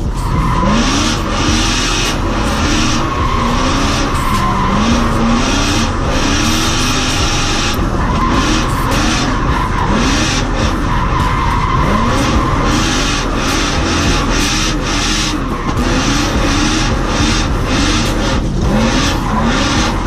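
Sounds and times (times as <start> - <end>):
car engine revving: 0.0 - 20.0
tyres skidding and squealing: 0.0 - 20.0.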